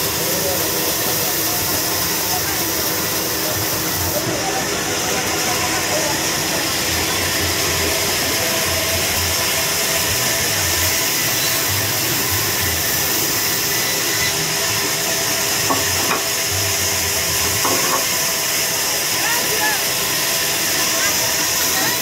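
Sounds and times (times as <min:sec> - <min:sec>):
band saw cutting log: 0:00.0 - 0:22.0.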